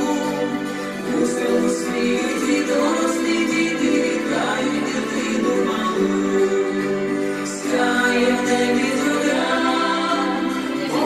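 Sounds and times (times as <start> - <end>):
voices singing a carol together: 0.0 - 11.0.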